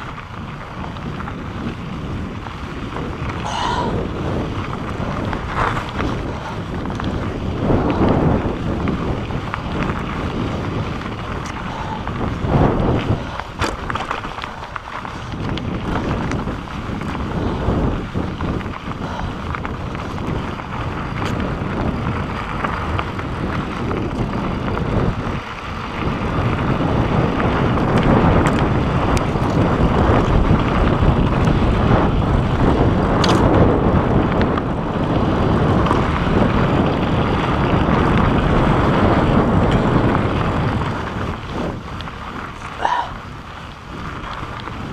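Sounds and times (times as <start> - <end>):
bike rattling and knocking: 0.0 - 44.9
tyres rumbling over rocky trail: 0.0 - 44.9
wind buffeting microphone: 0.0 - 44.9.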